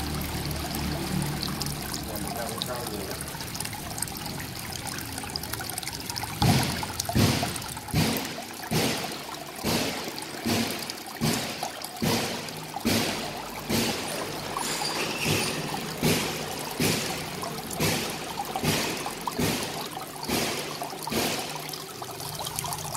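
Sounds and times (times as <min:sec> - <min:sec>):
water trickling over rocks: 0:00.0 - 0:22.9.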